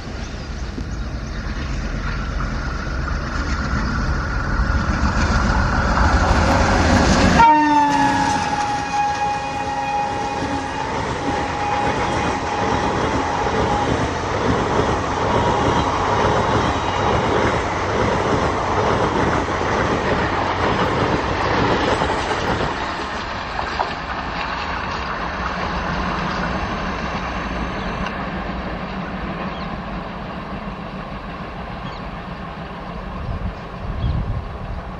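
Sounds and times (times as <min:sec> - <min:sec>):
train wheels clattering on rails: 0:00.0 - 0:34.9.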